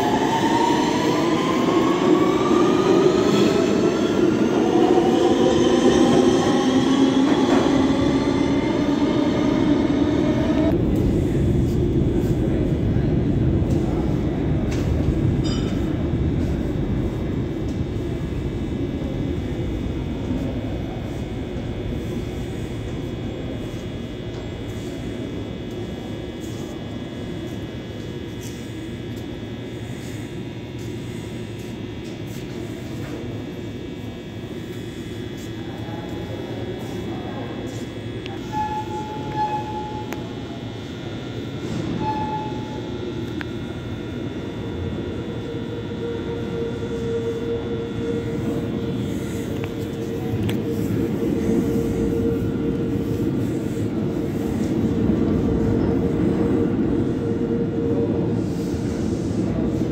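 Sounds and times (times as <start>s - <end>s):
subway train rumble: 0.0s - 59.9s
subway train whine: 0.0s - 59.9s.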